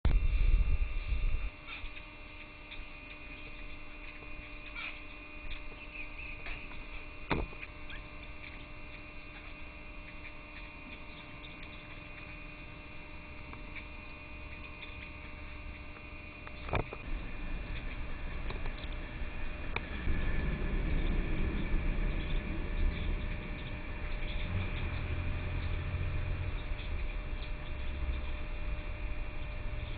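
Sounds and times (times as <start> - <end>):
steady hum: 0.1 - 29.9.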